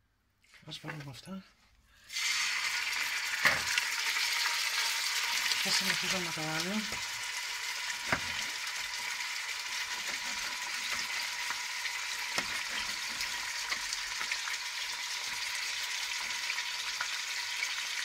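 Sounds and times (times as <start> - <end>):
meat sizzling in oil: 2.1 - 18.0.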